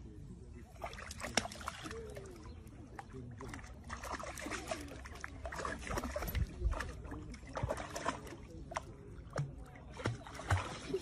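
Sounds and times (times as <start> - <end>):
water splashing and sloshing: 0.6 - 11.0.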